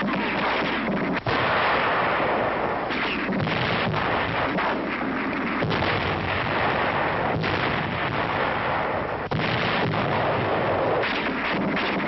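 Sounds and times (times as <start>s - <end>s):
continuous gunfire: 0.0s - 12.0s
sharp shots or blasts: 0.0s - 12.0s.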